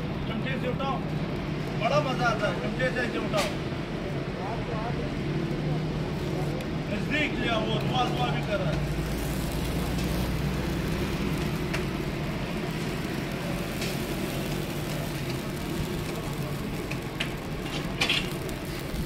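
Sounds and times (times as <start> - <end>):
griddle sizzling: 0.0 - 19.0.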